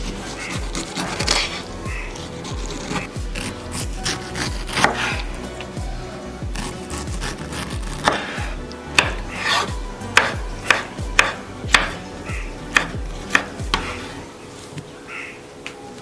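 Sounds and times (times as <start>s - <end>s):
knife cutting fruit: 0.0s - 5.7s, 6.5s - 14.2s.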